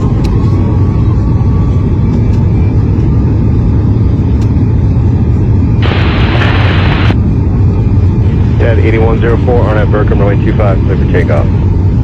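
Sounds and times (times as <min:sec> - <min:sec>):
faint whine: 0:00.0 - 0:12.0
jet engines rumbling in cabin: 0:00.0 - 0:12.0.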